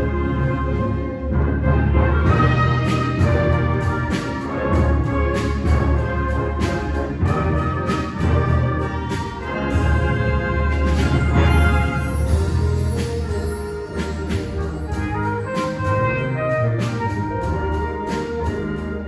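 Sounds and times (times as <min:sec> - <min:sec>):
orchestra playing loudly: 0:00.0 - 0:19.0.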